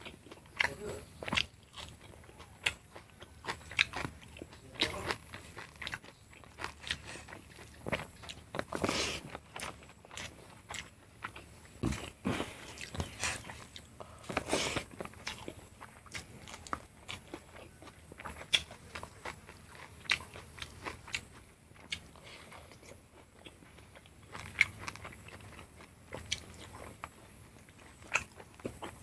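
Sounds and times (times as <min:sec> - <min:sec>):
wet chewing and mouth smacks: 0:00.0 - 0:29.0.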